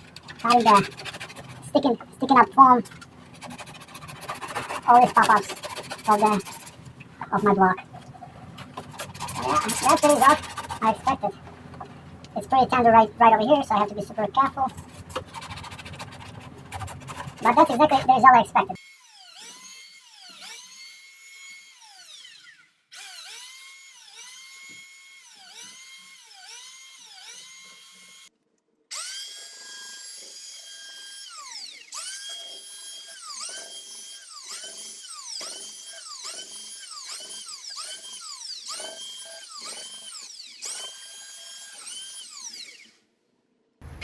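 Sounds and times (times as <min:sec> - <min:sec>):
high-speed power tool whining: 0:00.0 - 0:28.3, 0:28.9 - 0:43.1.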